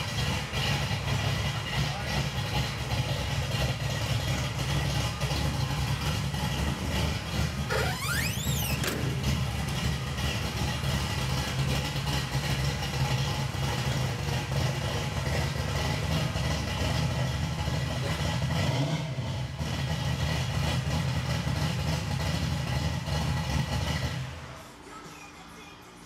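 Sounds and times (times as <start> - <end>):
truck engine idling: 0.0 - 25.6.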